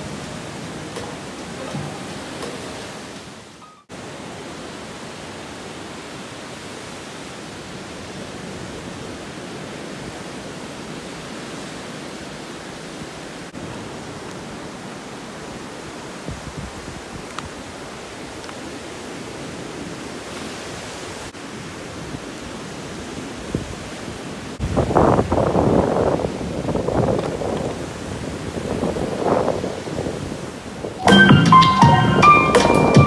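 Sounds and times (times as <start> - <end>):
surf breaking on a beach: 0.0 - 33.0.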